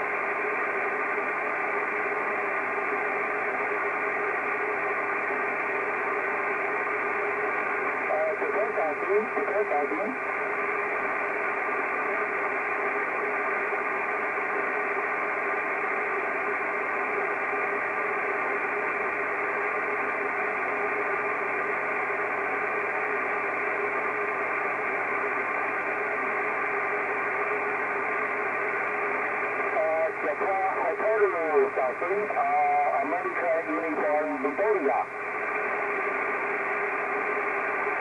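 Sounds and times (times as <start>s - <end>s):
radio receiver hiss: 0.0s - 38.0s.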